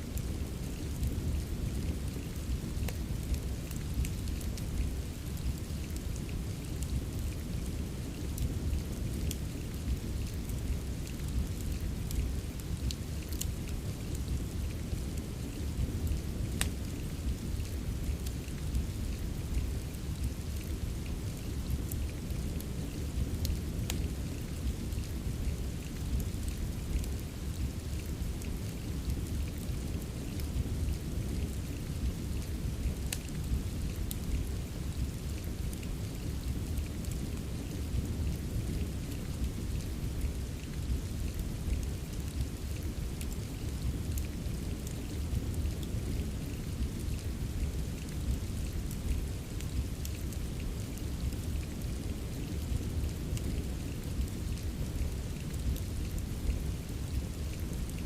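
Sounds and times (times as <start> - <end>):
steady rain: 0.0 - 58.0
fire crackling and popping: 0.1 - 58.0.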